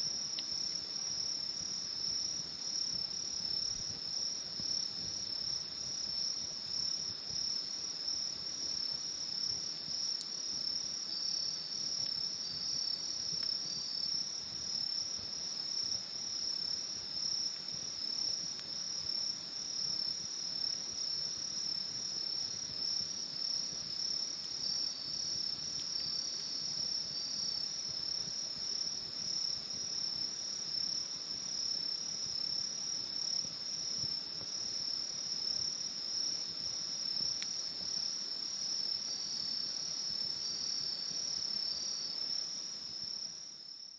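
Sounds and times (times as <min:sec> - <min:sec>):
crickets chirring: 0:00.0 - 0:43.9
lower insect trill: 0:00.0 - 0:43.9.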